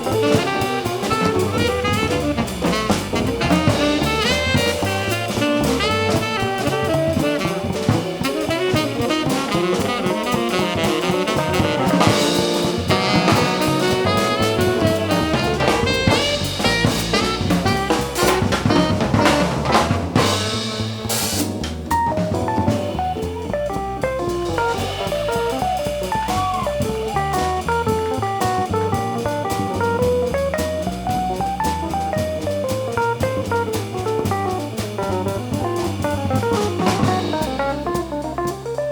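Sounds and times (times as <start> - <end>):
saxophone: 0.0 - 21.6, 22.4 - 38.2
bass: 0.0 - 38.9
drum kit: 0.0 - 38.9.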